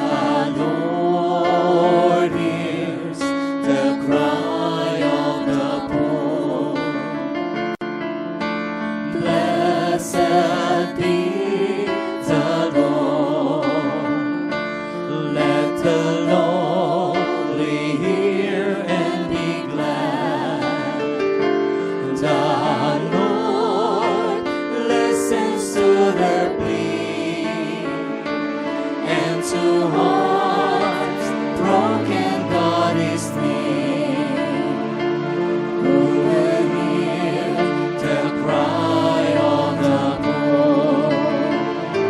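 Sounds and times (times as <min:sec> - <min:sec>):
choir singing worship song: 0:00.0 - 0:07.7, 0:08.8 - 0:42.0
instrumental accompaniment: 0:00.0 - 0:42.0.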